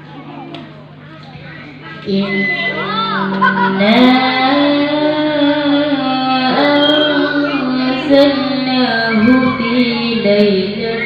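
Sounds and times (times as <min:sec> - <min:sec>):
boy reciting melodically: 0:00.0 - 0:11.0.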